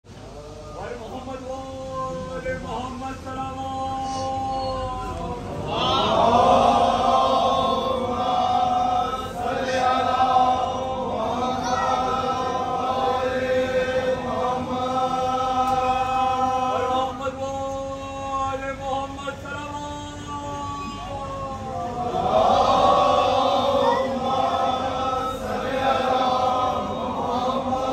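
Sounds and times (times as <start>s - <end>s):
men chanting a lament: 0.1s - 27.9s.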